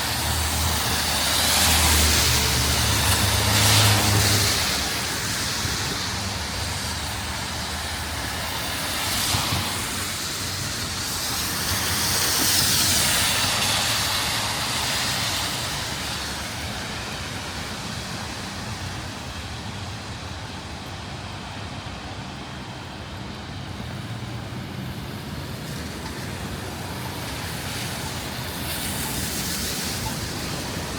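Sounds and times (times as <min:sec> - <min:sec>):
steady rain: 0:00.0 - 0:30.9
tyres hissing on wet road: 0:00.0 - 0:30.9.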